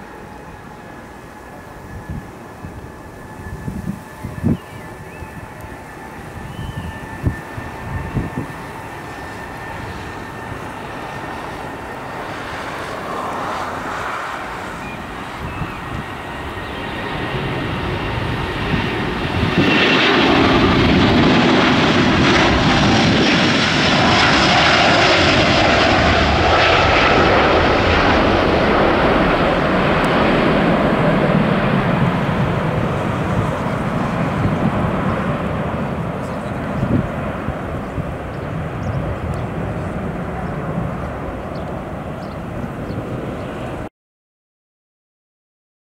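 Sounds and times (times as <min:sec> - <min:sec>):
jet engines at take-off thrust: 0:00.0 - 0:43.9.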